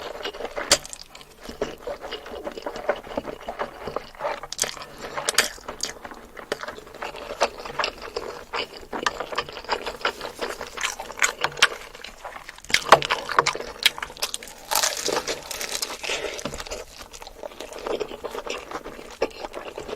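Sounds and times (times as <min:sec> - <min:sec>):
chewing and mouth noises: 0:00.0 - 0:19.9.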